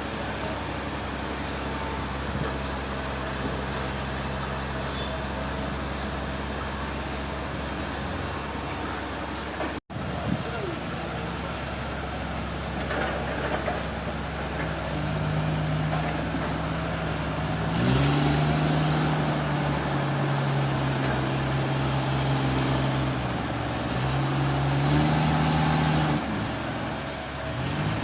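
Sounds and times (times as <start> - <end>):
sawmill machinery humming: 0.0 - 28.0.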